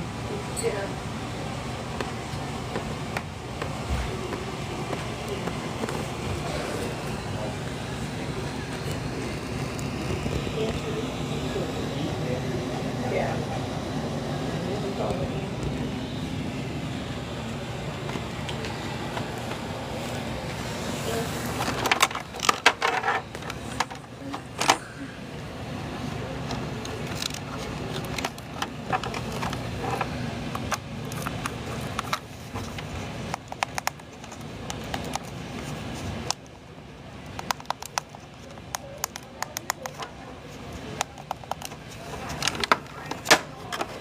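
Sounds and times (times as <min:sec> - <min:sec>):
indistinct voices: 0:00.0 - 0:44.0
low background hum: 0:00.0 - 0:44.0.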